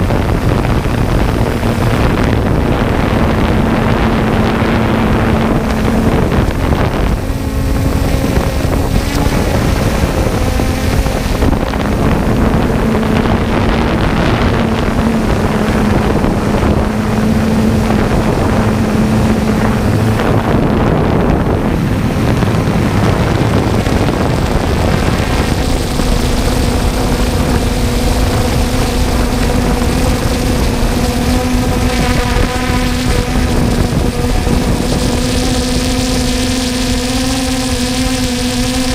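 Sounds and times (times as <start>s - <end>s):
harvester engine drone: 0.0s - 38.9s
wind rumbling on microphone: 0.0s - 38.9s.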